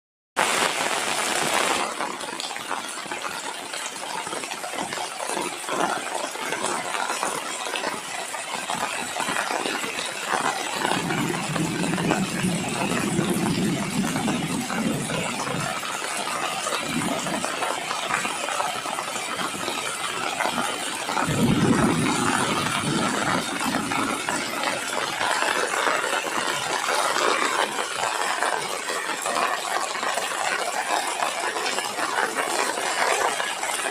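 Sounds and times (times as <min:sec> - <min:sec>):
light rain pattering: 0:00.4 - 0:33.9.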